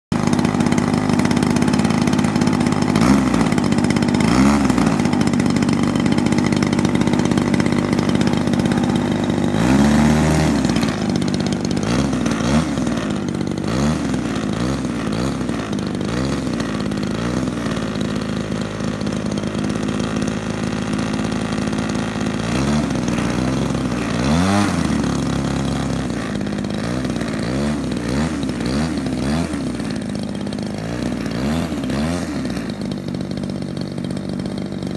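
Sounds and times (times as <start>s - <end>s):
model aeroplane engine revving: 0.1s - 34.9s.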